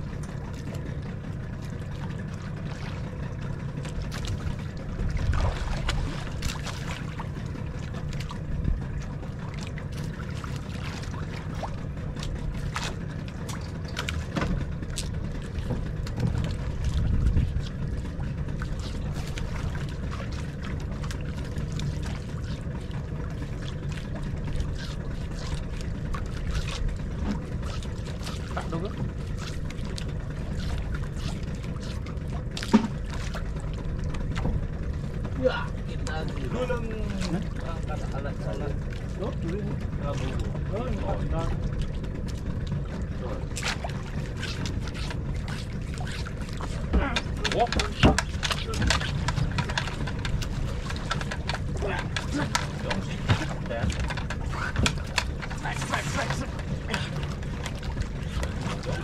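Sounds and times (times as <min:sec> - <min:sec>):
steady low rumble: 0:00.0 - 0:59.0
water sloshing against boat hull: 0:00.0 - 0:59.0.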